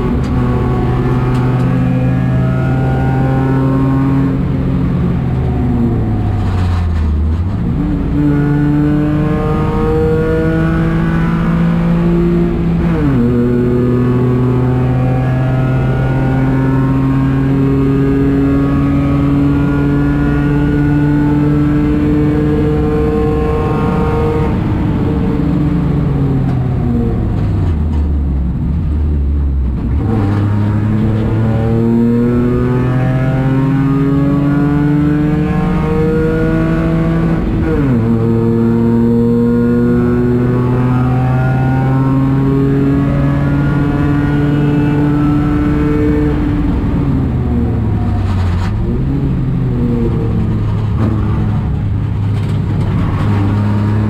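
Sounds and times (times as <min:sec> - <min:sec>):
race car engine accelerating: 0:00.0 - 0:28.1, 0:29.0 - 0:54.0.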